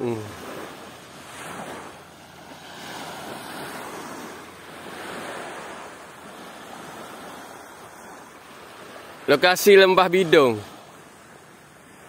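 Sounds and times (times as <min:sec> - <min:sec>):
water washing at shore: 0:00.0 - 0:12.0.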